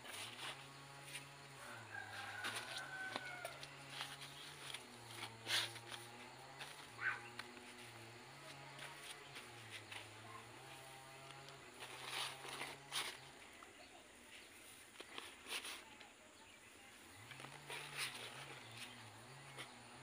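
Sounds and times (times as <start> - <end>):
hand raking potting soil: 0.0 - 20.0.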